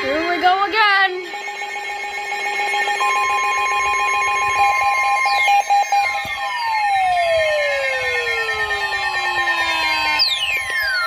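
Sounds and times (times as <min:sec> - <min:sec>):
rapidly pulsing tone: 0:00.0 - 0:11.0
tone falling in pitch: 0:00.0 - 0:11.0
electronic alert tones: 0:00.8 - 0:11.0.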